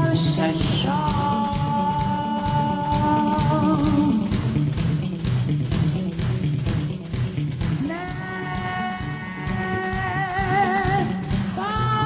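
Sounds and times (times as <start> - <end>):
rock song with held vocal note: 0.0 - 6.1, 7.6 - 12.0.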